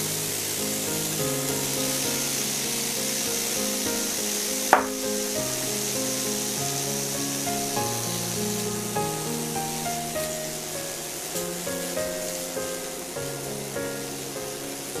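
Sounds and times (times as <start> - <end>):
bacon sizzling in a pan: 0.0 - 15.0.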